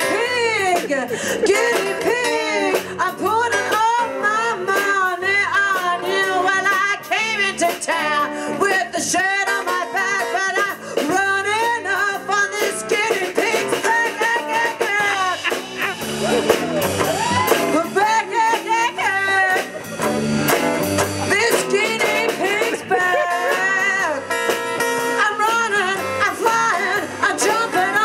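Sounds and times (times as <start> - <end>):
woman singing into microphone: 0.0 - 15.6, 17.6 - 19.8, 21.2 - 24.4, 25.0 - 28.0
guitar: 0.0 - 28.0
live band playing: 0.0 - 28.0.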